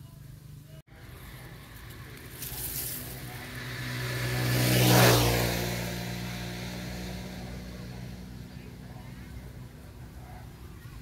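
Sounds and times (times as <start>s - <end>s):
steady engine hum: 0.0s - 11.0s
motor engine passing by: 0.9s - 11.0s.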